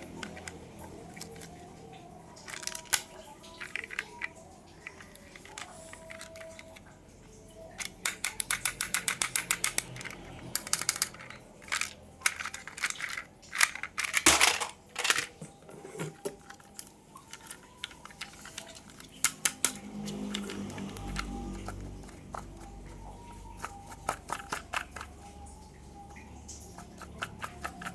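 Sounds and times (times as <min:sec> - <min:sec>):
clicks and taps handling toys: 0:00.0 - 0:06.8, 0:07.7 - 0:27.9.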